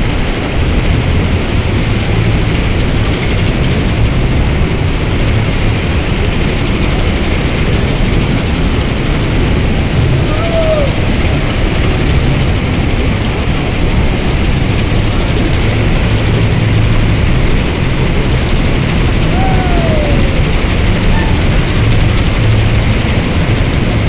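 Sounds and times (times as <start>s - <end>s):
low machine hum: 0.0s - 24.0s
spinning ride rushing drone: 0.0s - 24.0s.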